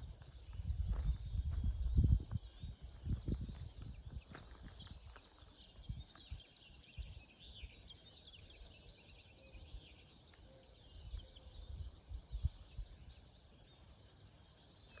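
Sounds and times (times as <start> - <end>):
songbirds singing and chirping: 0.0 - 15.0.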